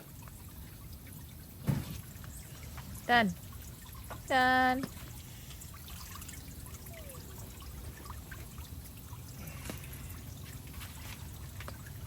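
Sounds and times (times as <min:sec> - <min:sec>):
water trickling and pouring: 0:00.0 - 0:12.0.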